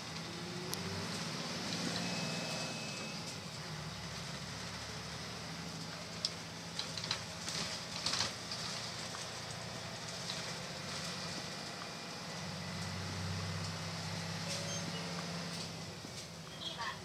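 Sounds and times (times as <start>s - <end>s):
bus engine hum: 0.0s - 17.0s.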